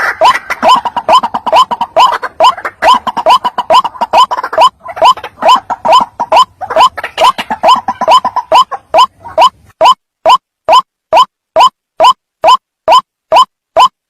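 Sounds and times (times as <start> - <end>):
waterhen calling: 0.0 - 13.9.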